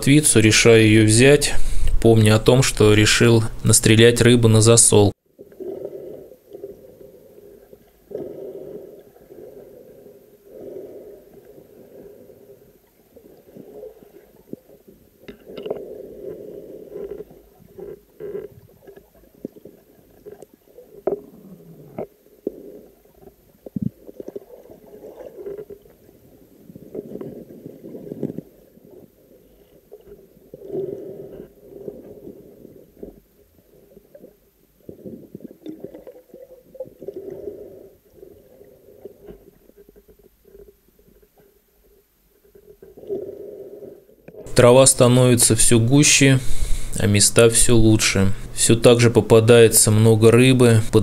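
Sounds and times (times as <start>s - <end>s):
underwater gurgling and sloshing: 5.2s - 44.6s, 45.4s - 50.2s.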